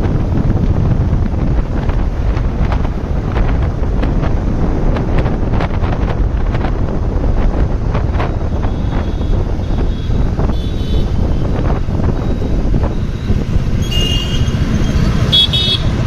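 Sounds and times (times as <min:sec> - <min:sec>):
motorcycle engine: 0:00.0 - 0:16.0
road noise: 0:00.0 - 0:16.0
wind rush on microphone: 0:00.0 - 0:16.0.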